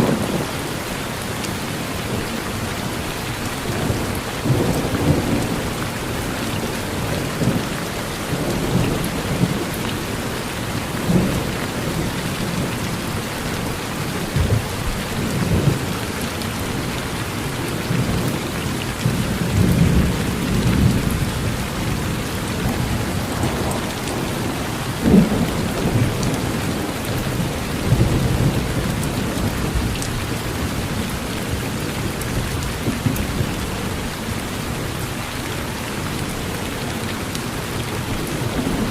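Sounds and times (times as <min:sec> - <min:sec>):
rain falling on a porch: 0:00.0 - 0:38.9
thunder rumbling: 0:02.8 - 0:34.1.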